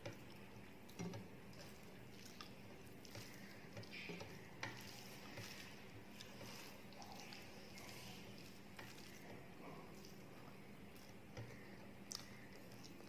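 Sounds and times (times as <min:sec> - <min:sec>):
fingers mixing rice: 0:00.0 - 0:13.0.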